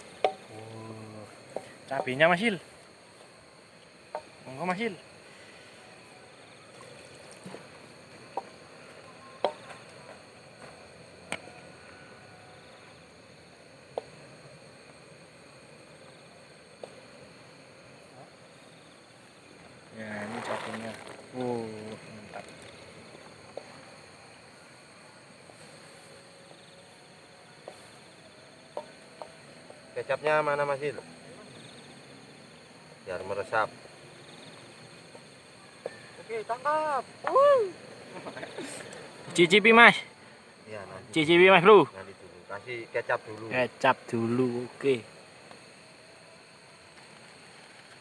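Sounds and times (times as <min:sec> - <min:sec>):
insect chirring: 0:00.0 - 0:48.0.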